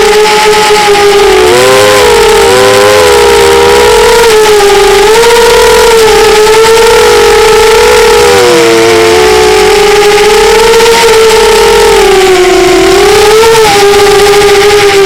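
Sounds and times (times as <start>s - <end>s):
model airplane engine whining: 0.0s - 15.0s.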